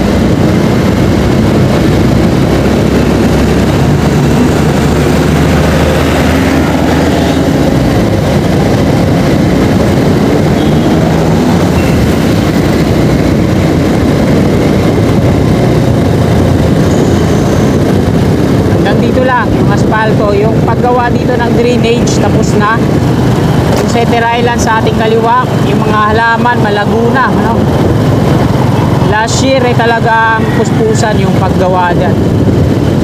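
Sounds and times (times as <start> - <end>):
motorcycle engine drone: 0.0 - 33.0
road and wind noise: 0.0 - 33.0.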